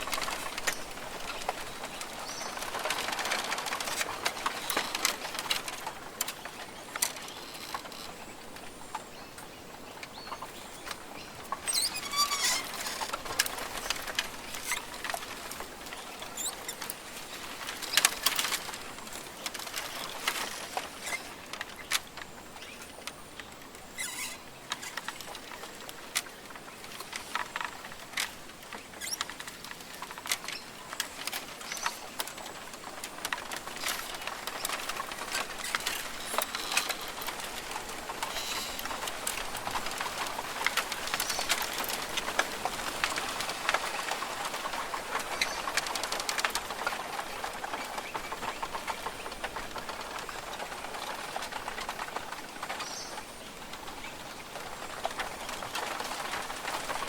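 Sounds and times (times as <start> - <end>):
rainforest hiss: 0.0 - 49.0
sharp ticks and crackles: 0.0 - 57.0.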